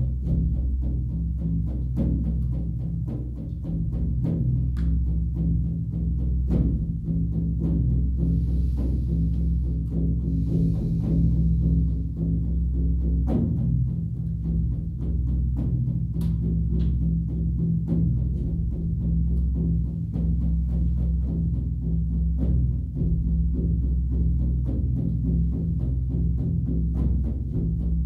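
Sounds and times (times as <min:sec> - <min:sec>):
steady drum beat: 0:00.0 - 0:28.0.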